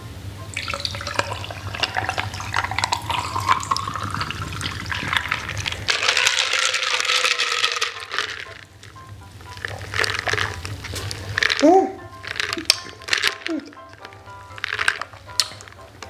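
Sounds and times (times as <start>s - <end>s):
drink poured over ice: 0.6s - 16.0s
straw stirring ice: 0.6s - 16.0s.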